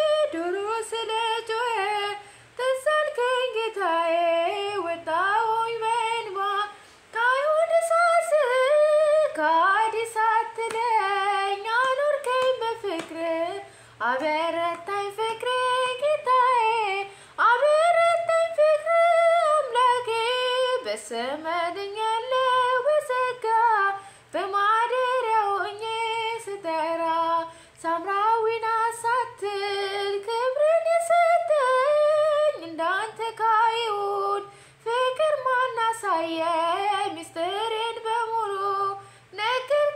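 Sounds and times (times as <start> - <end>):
woman singing a hymn unaccompanied: 0.0 - 39.9.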